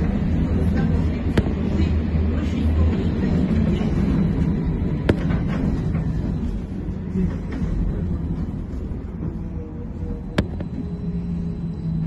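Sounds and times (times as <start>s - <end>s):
trolleybus rumbling: 0.0s - 12.0s.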